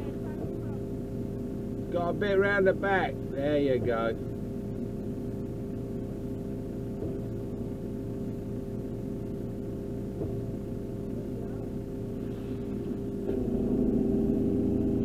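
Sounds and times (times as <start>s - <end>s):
diesel engine idling and revving: 0.0s - 15.0s.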